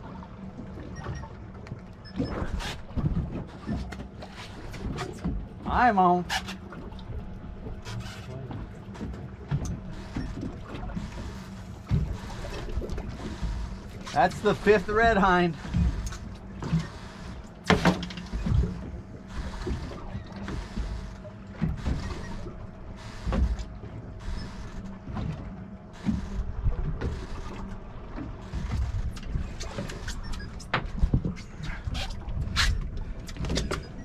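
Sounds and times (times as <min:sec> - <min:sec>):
wind and water noise: 0:00.0 - 0:34.0.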